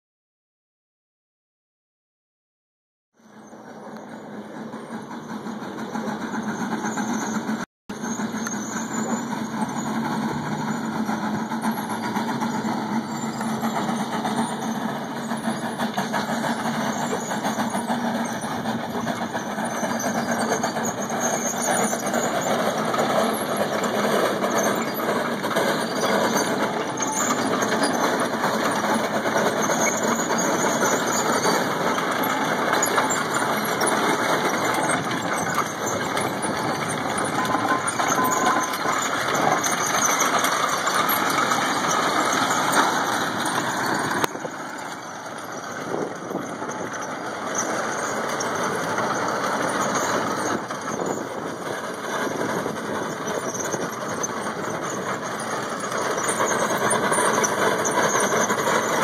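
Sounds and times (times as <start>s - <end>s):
steam log hauler clattering: 3.2s - 59.0s.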